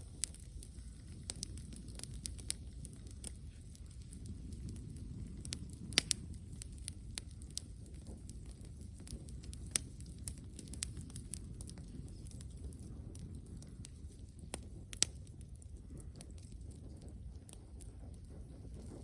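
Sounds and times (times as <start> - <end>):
campfire crackling and popping: 0.0 - 19.0
low steady rumble: 0.0 - 19.0.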